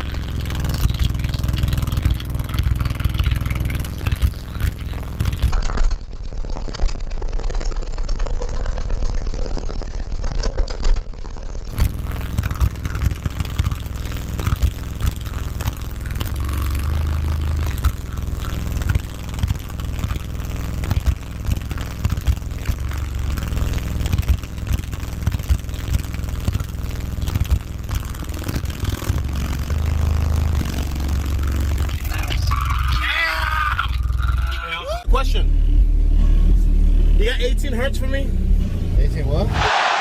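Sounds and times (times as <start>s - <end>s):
crackling clicks: 0.0s - 33.0s
deep subwoofer bass: 0.0s - 39.7s.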